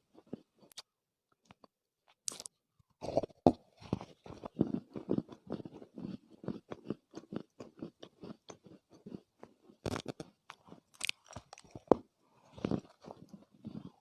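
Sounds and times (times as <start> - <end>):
chewing with small crunches: 0.0 - 14.0.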